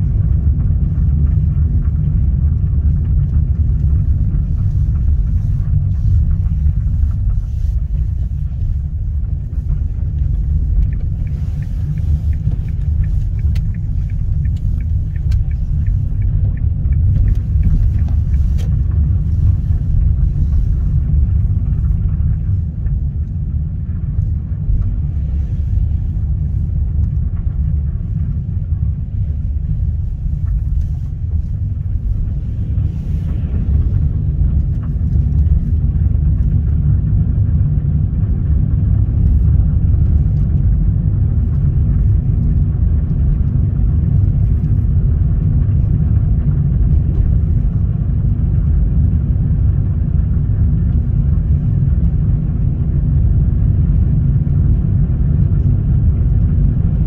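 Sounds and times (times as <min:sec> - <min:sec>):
road and engine rumble in car: 0:00.0 - 0:57.0.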